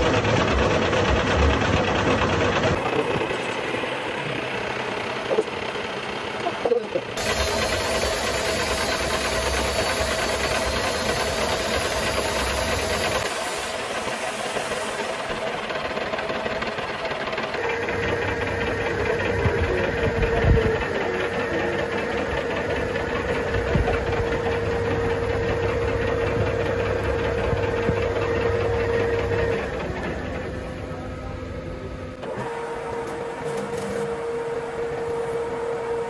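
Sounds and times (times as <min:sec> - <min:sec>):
metal lathe whining: 0:07.1 - 0:36.0.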